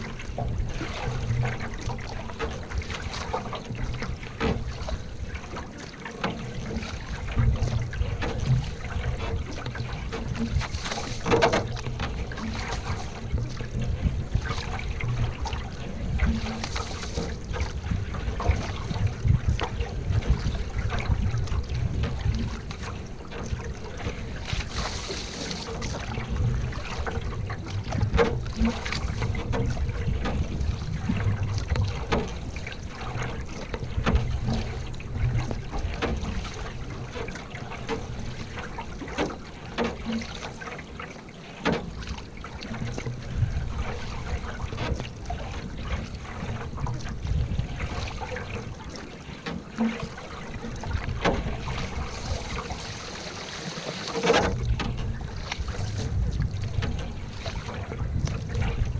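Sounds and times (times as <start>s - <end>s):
wind rumble on microphone: 0.0s - 40.2s, 41.8s - 48.9s, 49.8s - 53.3s, 54.2s - 58.9s
water splashing off paddle: 0.0s - 58.9s.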